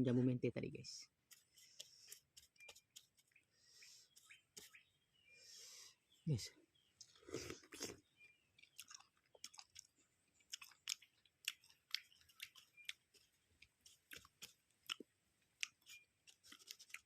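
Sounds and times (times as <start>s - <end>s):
person chewing food: 1.2s - 4.9s, 7.0s - 17.0s.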